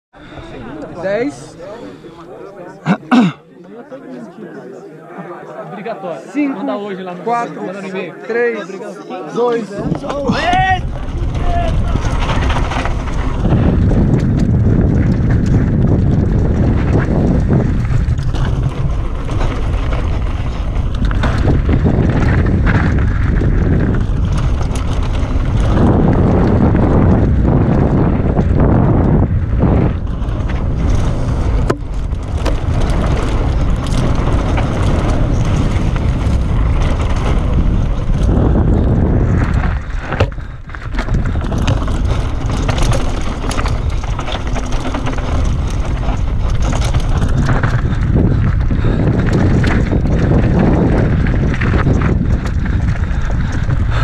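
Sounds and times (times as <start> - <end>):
bike tyres on dirt: 9.2 - 54.0
wind buffeting microphone: 9.7 - 54.0
bike rattling and knocking: 9.8 - 54.0.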